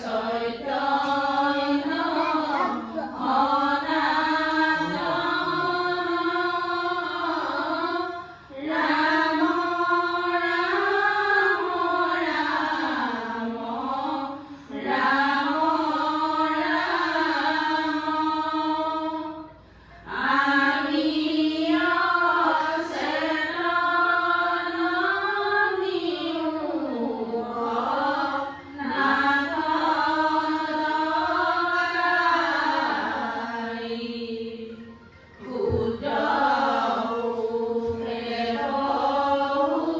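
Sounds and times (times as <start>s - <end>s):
devotional chanting: 0.0s - 39.9s.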